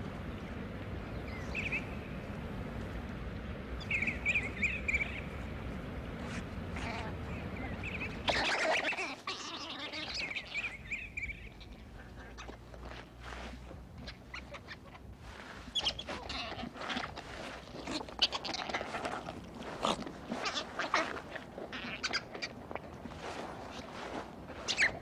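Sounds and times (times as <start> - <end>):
low outdoor background: 0.0 - 25.0.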